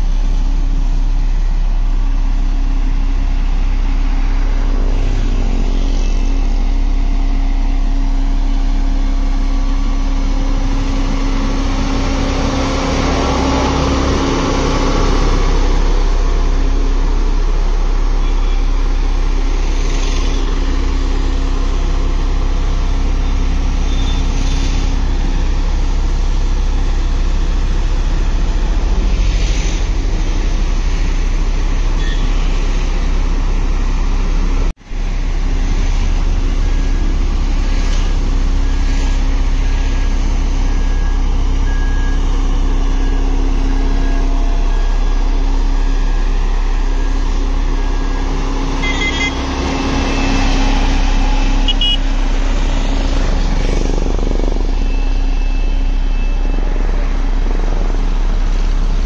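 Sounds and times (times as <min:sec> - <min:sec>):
road roller diesel engine: 0:00.0 - 0:59.0.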